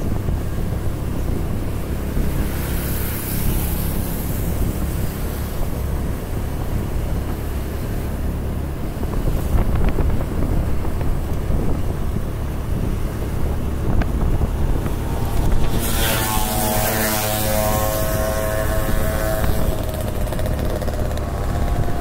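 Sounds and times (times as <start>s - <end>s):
road noise: 0.0s - 22.0s
vehicle engine hum: 0.0s - 22.0s
wind rushing over microphone: 0.0s - 22.0s.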